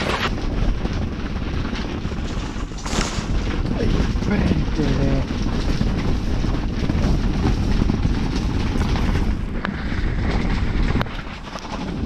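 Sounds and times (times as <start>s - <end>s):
gusting wind rumble: 0.0s - 12.0s
tent fabric flapping and rattling: 0.0s - 12.0s.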